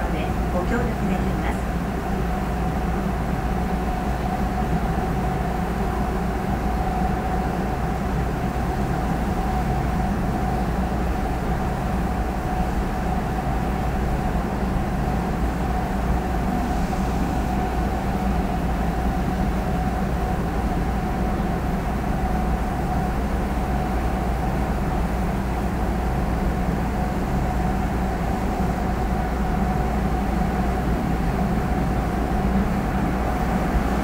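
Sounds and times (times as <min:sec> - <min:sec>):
constant whine: 0:00.0 - 0:34.0
train interior rumble: 0:00.0 - 0:34.0.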